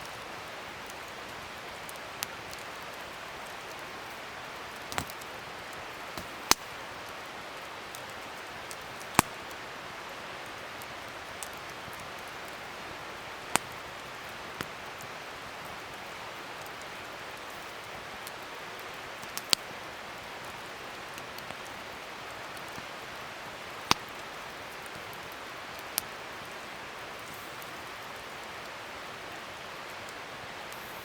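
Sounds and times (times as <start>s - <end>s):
wood fire crackling and hissing: 0.0s - 31.0s.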